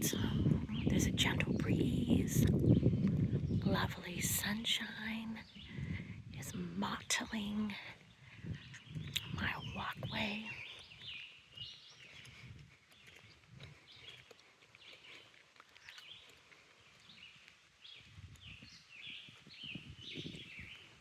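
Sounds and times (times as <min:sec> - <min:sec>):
faint songbird song: 0:00.0 - 0:21.0.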